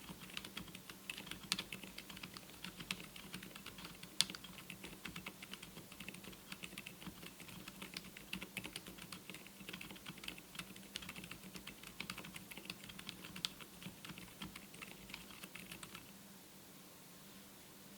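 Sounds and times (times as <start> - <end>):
soft muted keyboard typing: 0.0 - 16.1.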